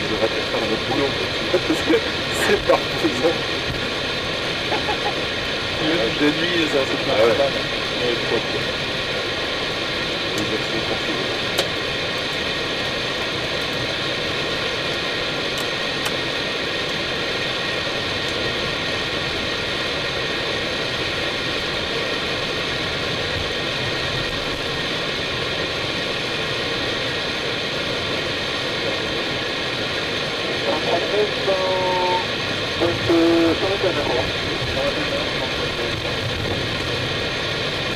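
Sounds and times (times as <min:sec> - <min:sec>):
cockpit air rush and engine noise: 0:00.0 - 0:37.9.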